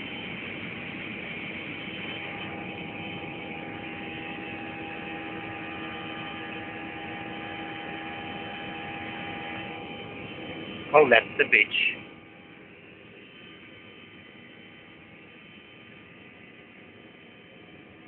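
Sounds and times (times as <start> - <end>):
airliner cabin engine and airflow noise: 0.0 - 18.0
steady tonal hum: 0.0 - 18.0.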